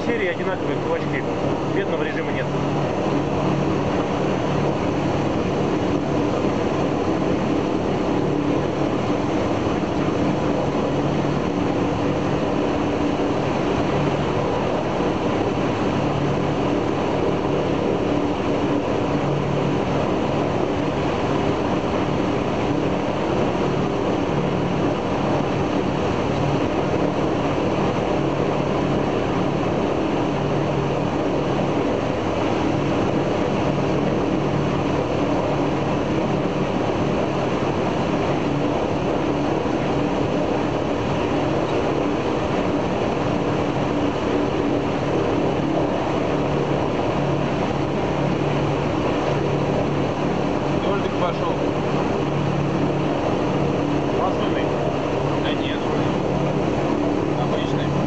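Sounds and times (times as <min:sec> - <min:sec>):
radial engine drone: 0:00.0 - 0:58.0.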